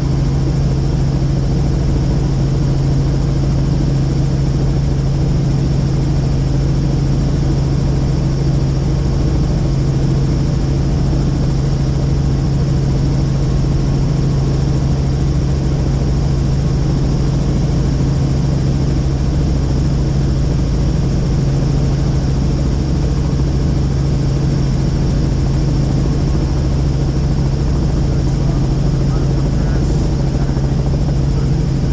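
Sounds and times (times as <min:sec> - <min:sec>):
helicopter cabin drone: 0:00.0 - 0:31.9.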